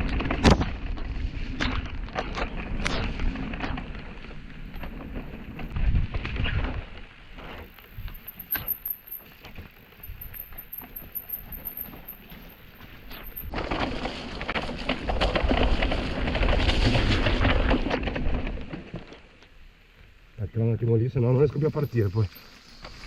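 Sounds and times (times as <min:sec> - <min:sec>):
bike rattling over rough ground: 0:00.0 - 0:19.6, 0:21.6 - 0:23.0.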